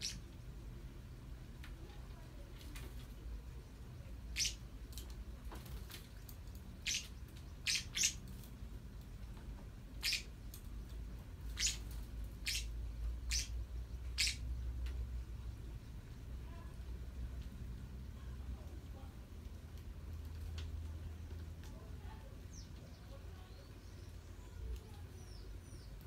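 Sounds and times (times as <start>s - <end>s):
birds chirping: 0.0s - 1.1s, 1.7s - 19.1s, 20.0s - 26.0s
low background hum: 0.0s - 26.0s.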